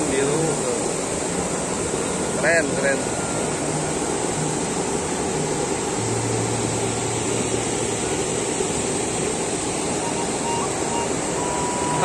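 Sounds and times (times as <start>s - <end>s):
geyser jetting water and steam: 0.0s - 12.0s.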